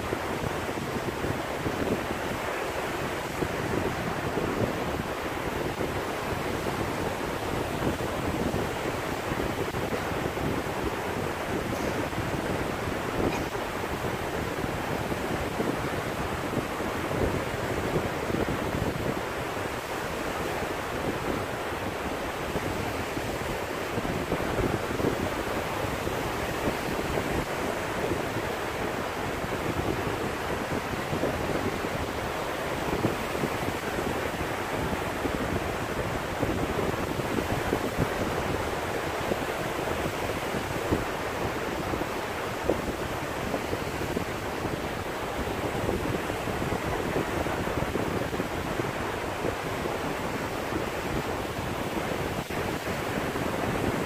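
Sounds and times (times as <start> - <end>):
waves washing over sand: 0.0 - 54.0
wind buffeting microphone: 0.0 - 54.0.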